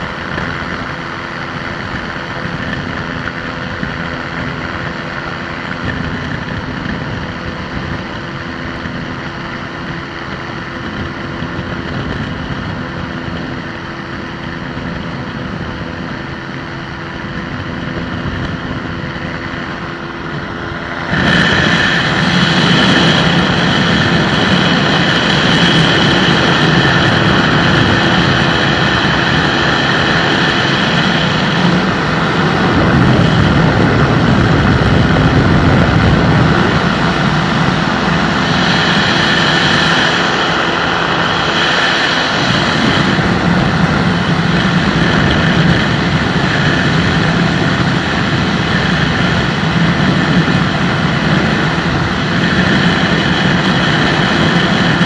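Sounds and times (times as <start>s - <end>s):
microlight engine and propeller: 0.0s - 55.0s.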